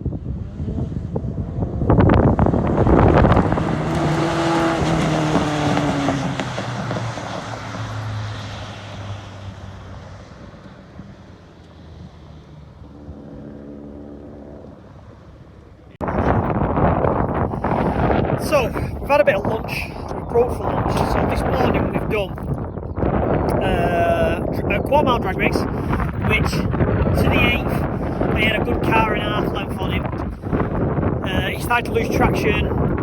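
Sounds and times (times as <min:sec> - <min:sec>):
cars at full throttle: 0:00.0 - 0:33.0.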